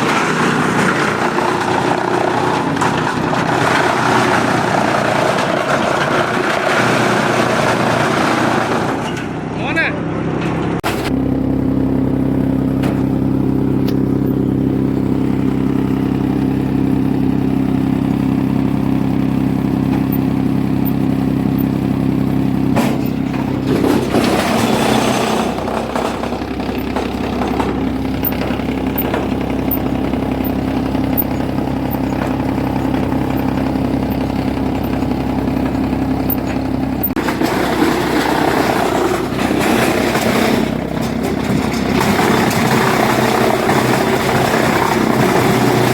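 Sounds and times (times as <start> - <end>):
wood chipper running: 0.0 - 45.9.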